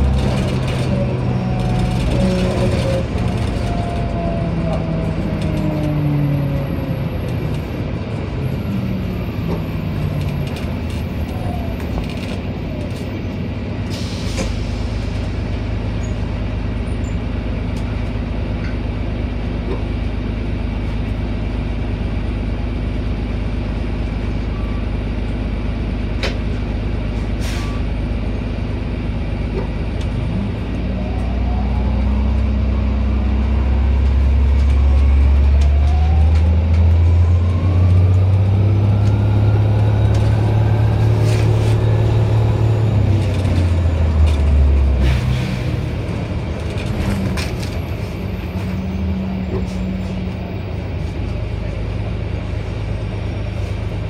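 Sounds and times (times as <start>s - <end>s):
bus engine humming: 0.0s - 54.0s.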